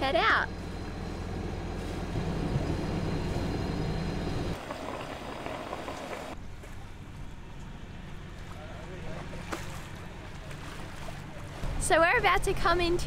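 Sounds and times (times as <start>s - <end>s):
boat engine humming: 0.0s - 13.0s
outdoor background noise: 0.0s - 13.0s.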